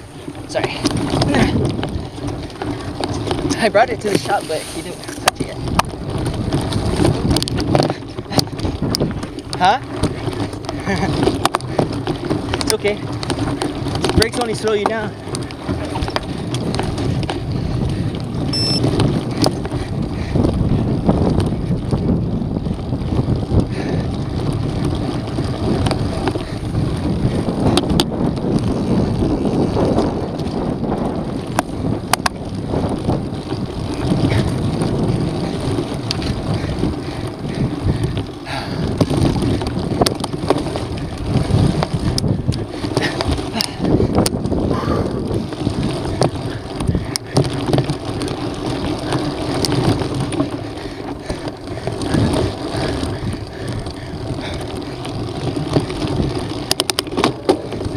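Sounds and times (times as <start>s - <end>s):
bike clicking and rattling: 0.0s - 57.9s
tyres rolling over dirt: 0.0s - 57.9s
wind rushing over microphone: 0.0s - 57.9s.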